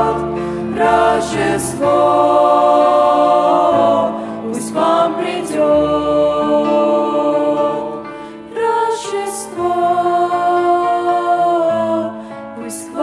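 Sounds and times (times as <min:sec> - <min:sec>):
vocal ensemble singing in harmony: 0:00.0 - 0:13.0.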